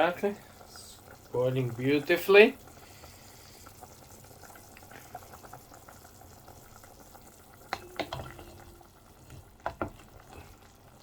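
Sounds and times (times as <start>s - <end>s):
soup bubbling in a pot: 0.0s - 11.0s.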